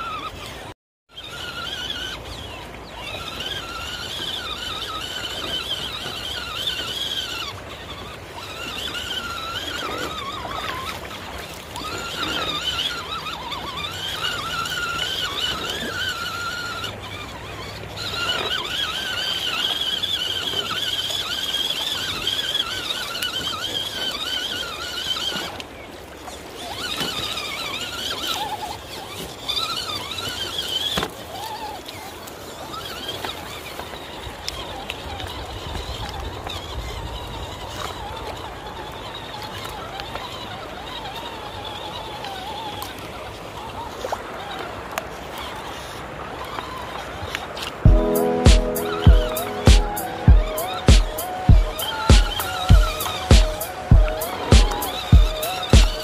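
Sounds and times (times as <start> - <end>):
toy car electric motor whining: 0.0 - 56.0.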